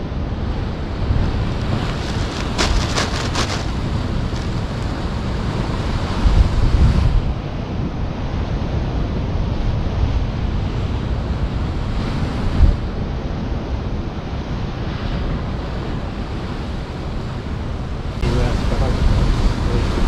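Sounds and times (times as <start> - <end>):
wind rumbling on microphone: 0.0 - 20.0
sea surf washing in: 0.3 - 20.0.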